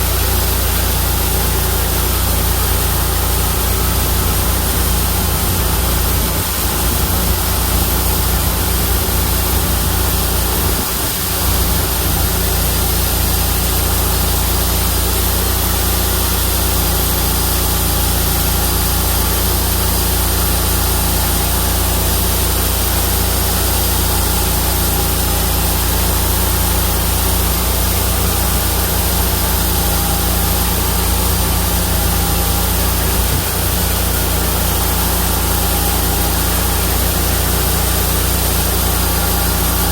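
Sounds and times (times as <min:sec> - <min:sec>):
sawmill engine humming and hissing: 0:00.0 - 0:39.9.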